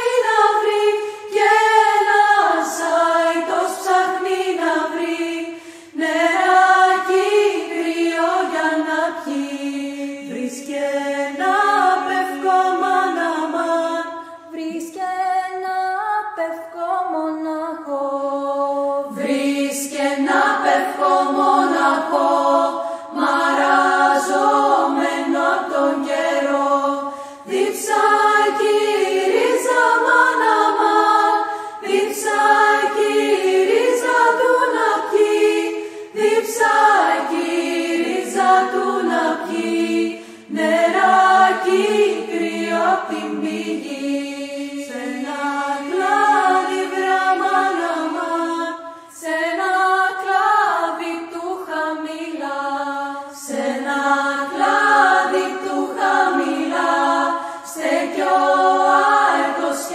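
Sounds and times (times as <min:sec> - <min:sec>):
vocal ensemble singing in harmony: 0:00.0 - 0:59.9.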